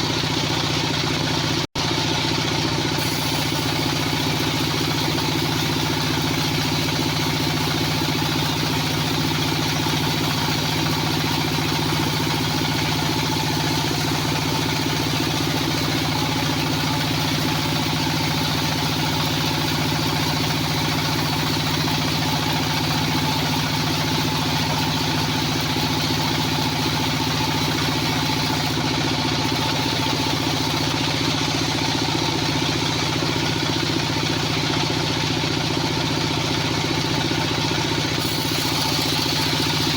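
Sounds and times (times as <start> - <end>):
band sawmill engine running: 0.0 - 39.9.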